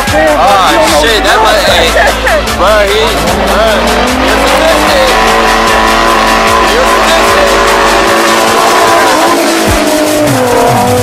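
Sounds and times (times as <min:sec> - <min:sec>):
car engine revving: 0:00.0 - 0:11.0
music with heavy bass: 0:00.0 - 0:11.0
tyres squealing: 0:00.1 - 0:11.0.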